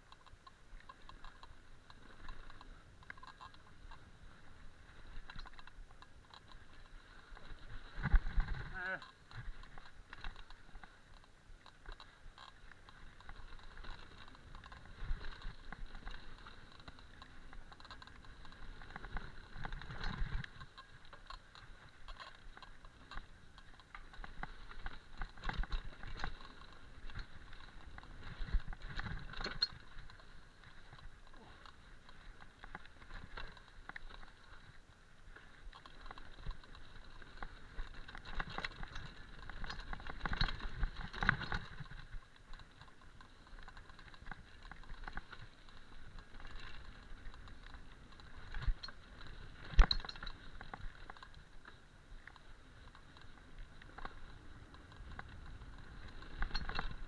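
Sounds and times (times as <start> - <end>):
bike rattling and knocking: 5.0 - 34.7, 35.7 - 51.5, 52.3 - 57.0.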